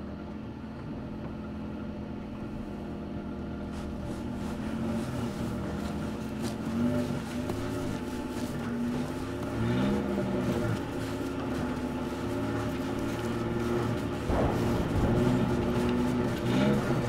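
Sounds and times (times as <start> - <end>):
truck engine running: 0.0 - 17.0
body scuffing in dry dirt: 2.8 - 17.0.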